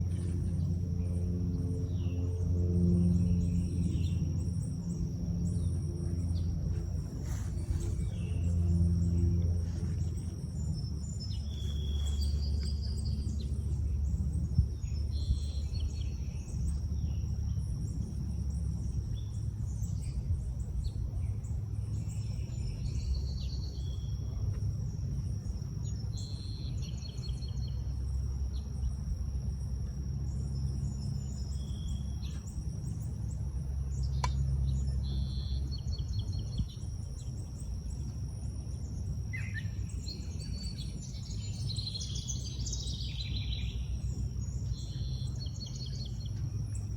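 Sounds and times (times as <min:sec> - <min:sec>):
high-pitched whine: 0:00.0 - 0:46.9
songbirds chirping and singing: 0:00.0 - 0:46.9
steady low rumble: 0:00.0 - 0:46.9.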